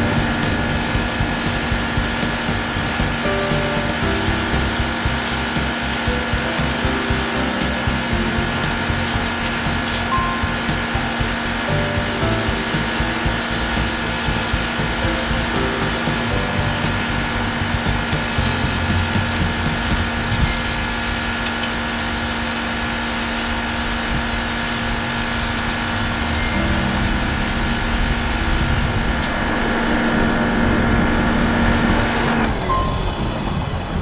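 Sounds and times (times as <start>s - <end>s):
water jet hissing on concrete: 0.0s - 32.5s
pressure washer motor whining: 0.0s - 34.0s.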